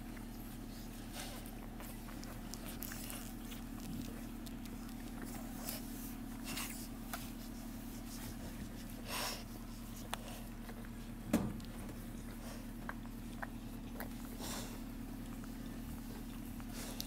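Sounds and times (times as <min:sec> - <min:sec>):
puppies rustling and scratching: 0:00.0 - 0:17.0
steady low hum: 0:00.0 - 0:17.0.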